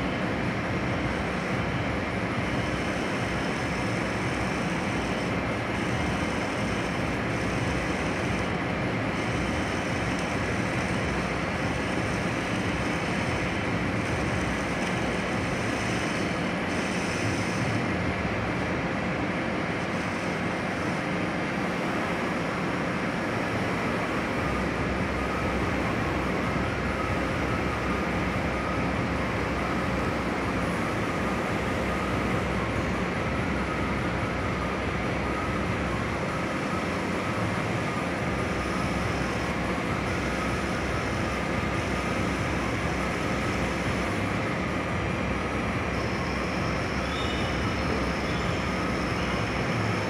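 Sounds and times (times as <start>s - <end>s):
faint wavering whine: 0.0s - 50.0s
metal lathe drone: 0.0s - 50.0s.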